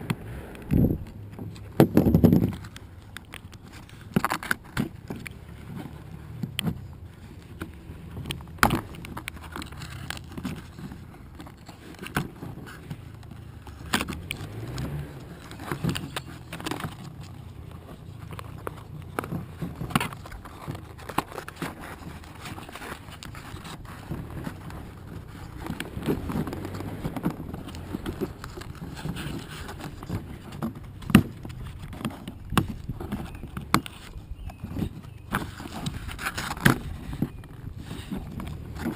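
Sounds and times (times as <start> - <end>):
packaging rustling: 1.0 - 38.9.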